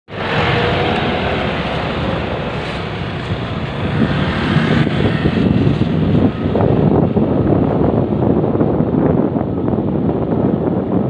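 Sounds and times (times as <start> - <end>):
motorcycle engine: 0.1 - 10.8
road noise: 0.1 - 11.0
wind buffeting microphone: 0.1 - 11.0.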